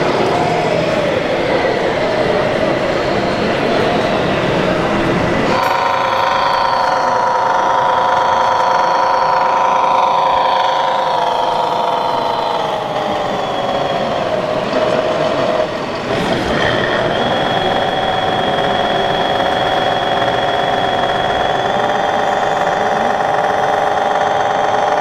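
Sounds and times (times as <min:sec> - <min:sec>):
simulated diesel truck engine: 0:00.0 - 0:25.0.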